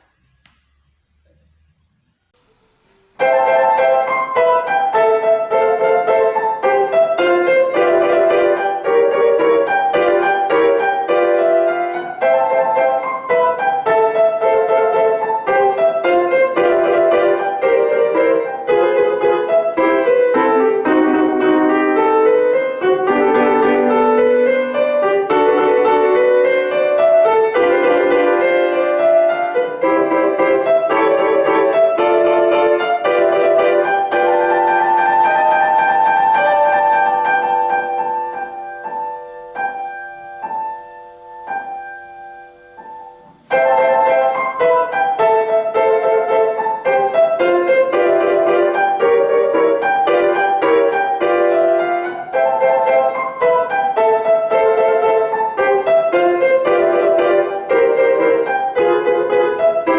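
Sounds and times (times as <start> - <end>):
classical piano piece: 0.0 - 59.9.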